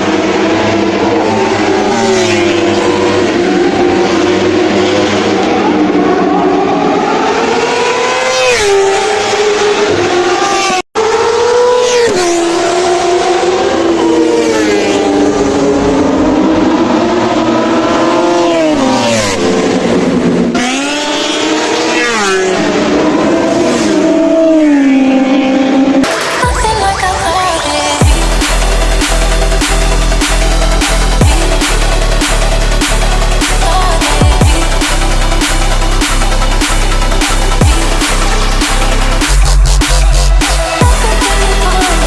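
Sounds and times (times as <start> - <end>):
racing engines revving: 0.0 - 42.0.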